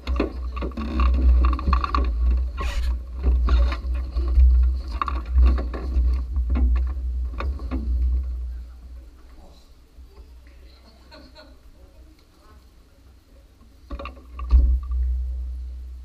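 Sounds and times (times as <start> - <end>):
continuous low rumble: 0.0 - 16.0.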